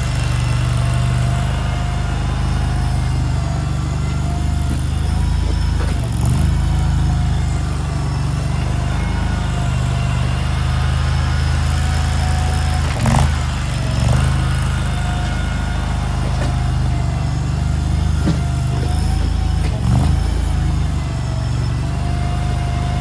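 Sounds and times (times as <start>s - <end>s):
mini skid steer engine running: 0.0s - 23.0s.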